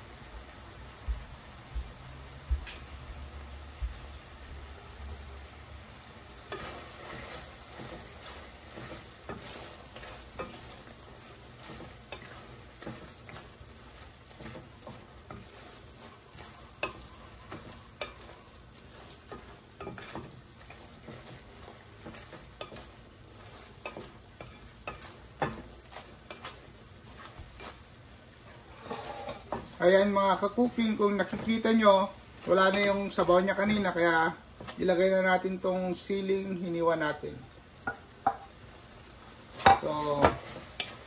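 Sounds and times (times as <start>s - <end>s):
food sizzling in a pan: 0.0s - 41.0s
wooden spoon scraping a pan: 5.2s - 41.0s.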